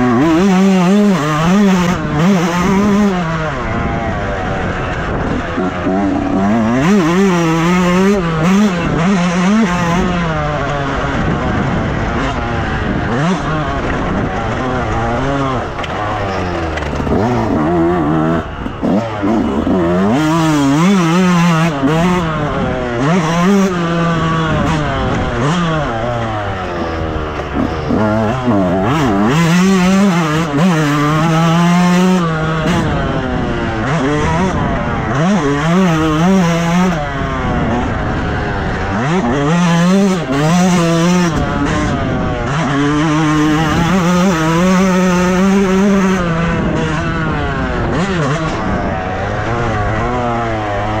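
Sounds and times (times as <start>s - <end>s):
motocross bike engine revving: 0.0s - 51.0s.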